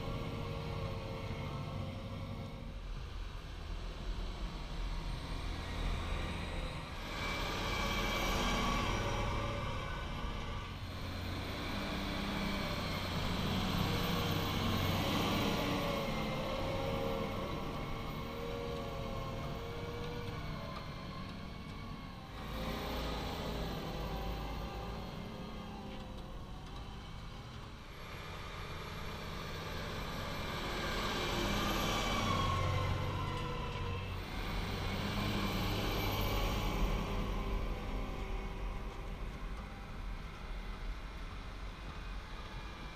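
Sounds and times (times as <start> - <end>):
rush of soil and tyres: 0.0 - 25.9, 27.8 - 42.9
tractor diesel engine under load: 0.0 - 42.9.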